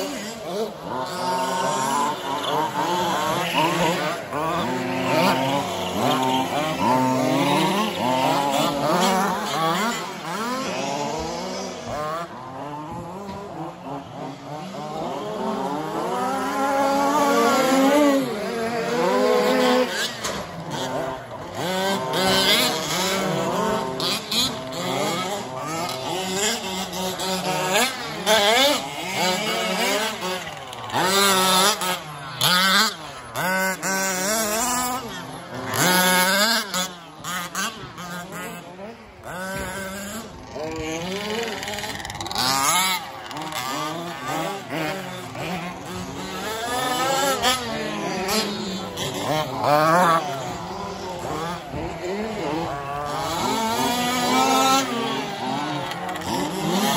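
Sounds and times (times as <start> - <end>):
rc car motors whining: 0.0 - 56.9.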